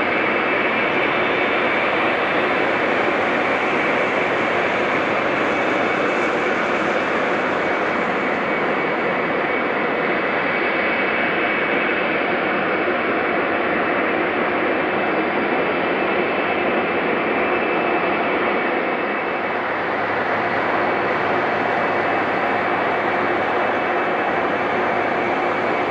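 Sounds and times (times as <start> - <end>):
jet engines at takeoff: 0.0 - 25.9.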